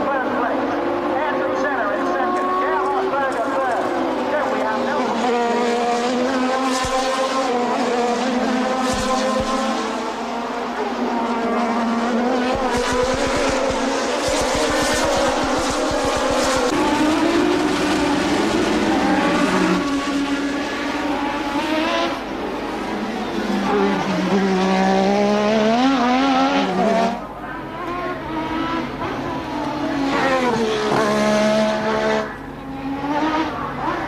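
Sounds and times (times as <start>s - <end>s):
racing car engine high revs: 0.0s - 34.0s.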